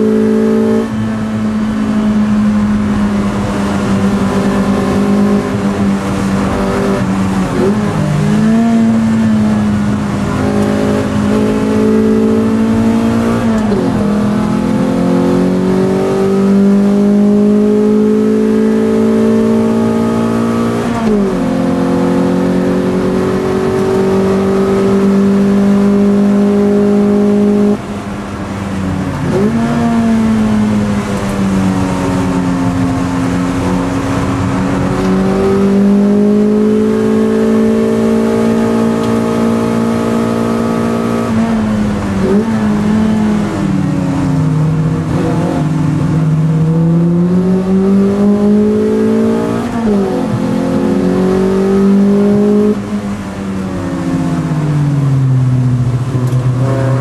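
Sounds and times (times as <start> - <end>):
race car engine accelerating: 0.0 - 57.0.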